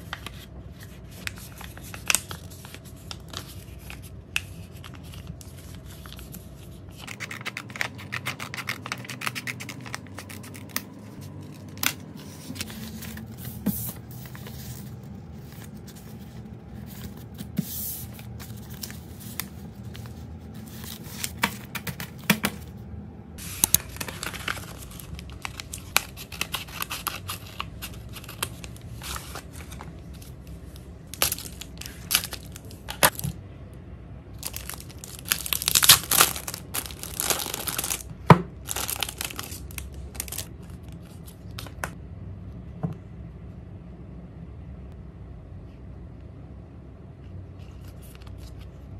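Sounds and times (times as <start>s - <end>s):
paper rustling and crinkling: 0.0s - 22.3s, 23.4s - 33.3s, 34.4s - 42.0s.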